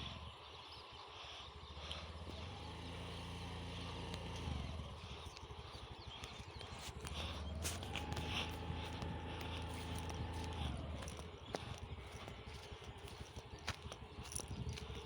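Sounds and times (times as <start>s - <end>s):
faint outdoor background noise: 0.0s - 15.0s
vehicle engine humming: 0.0s - 15.0s.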